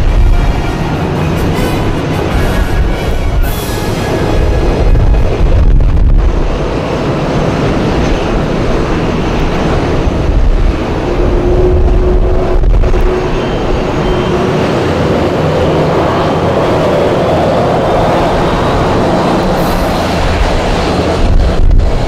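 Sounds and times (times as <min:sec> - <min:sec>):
blizzard wind buffeting microphone: 0:00.0 - 0:22.0.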